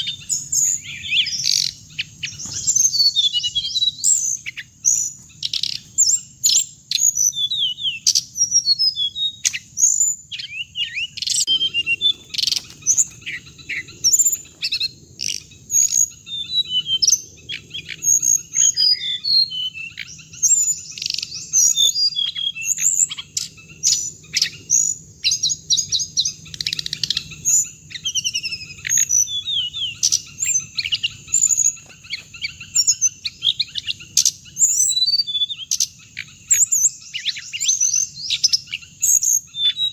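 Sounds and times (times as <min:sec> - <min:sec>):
faint low hum: 0:00.0 - 0:38.3
bird high-pitched chirps and trills: 0:00.0 - 0:39.9.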